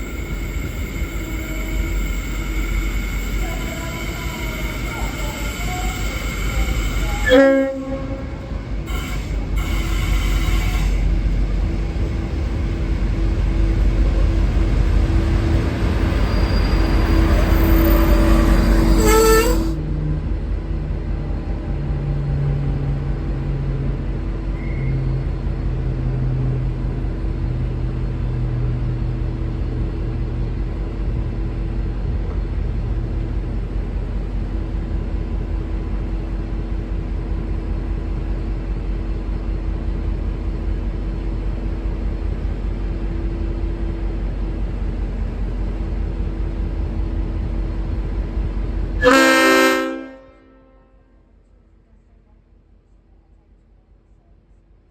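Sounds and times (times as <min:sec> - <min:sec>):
diesel locomotive rumbling: 0:00.0 - 0:54.6.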